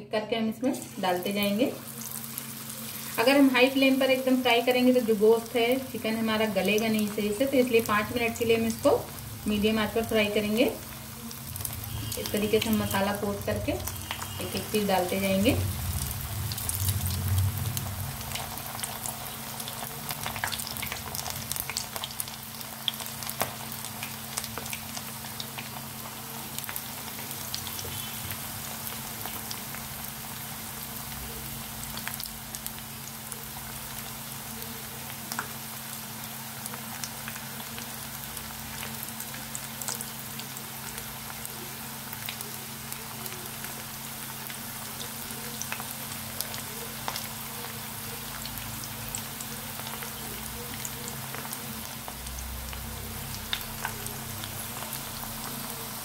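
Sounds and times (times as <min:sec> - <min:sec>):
chicken deep-frying in oil: 0:00.6 - 0:56.0.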